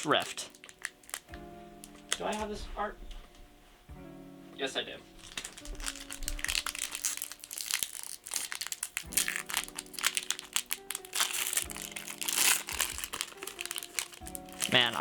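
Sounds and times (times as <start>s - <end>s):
foil wrapper crinkling and tearing: 0.0s - 3.2s, 5.1s - 15.0s.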